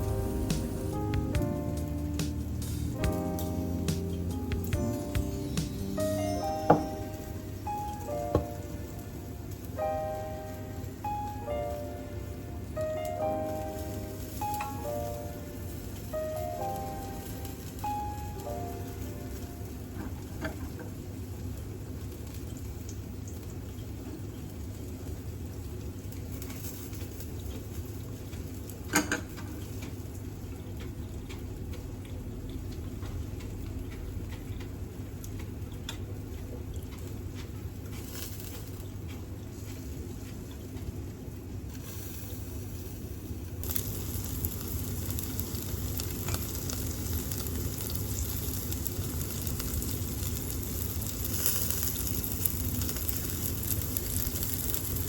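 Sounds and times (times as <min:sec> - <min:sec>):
range hood fan humming: 0:00.0 - 0:55.0
skewers sizzling on a grill: 0:00.0 - 0:55.0.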